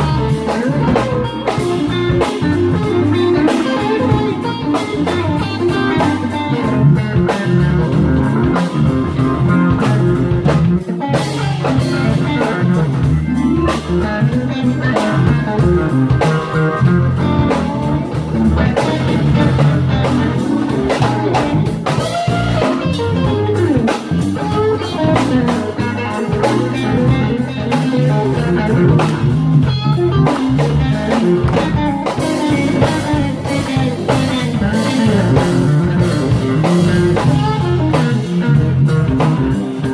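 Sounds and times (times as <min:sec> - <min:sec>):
drums: 0:00.0 - 0:39.9
electric guitar: 0:00.0 - 0:39.9
keyboard: 0:00.0 - 0:39.9.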